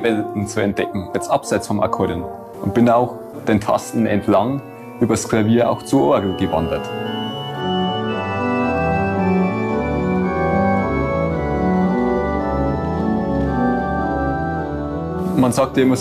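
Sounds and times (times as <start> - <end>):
pipe organ chords: 0.0 - 16.0.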